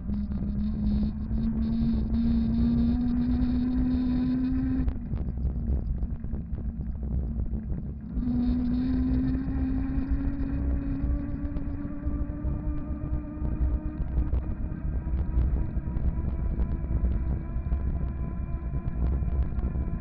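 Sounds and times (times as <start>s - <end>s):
electric motor whining: 0.0s - 5.6s, 8.0s - 19.9s
steady low rumble: 0.0s - 20.0s.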